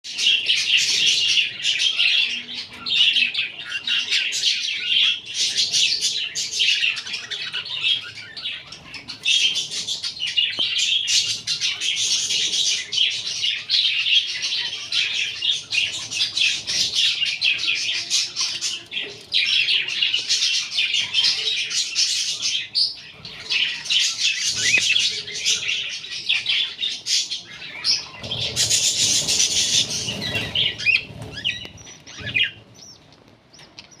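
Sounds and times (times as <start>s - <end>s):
budgerigars chirping and chattering: 0.1s - 34.0s.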